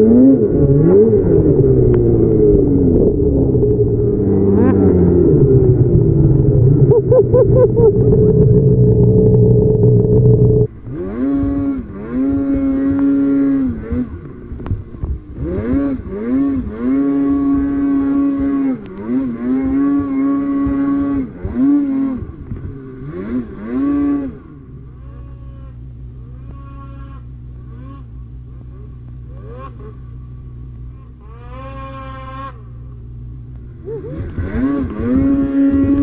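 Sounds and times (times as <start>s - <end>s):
snowmobile engine revving: 0.0s - 36.0s.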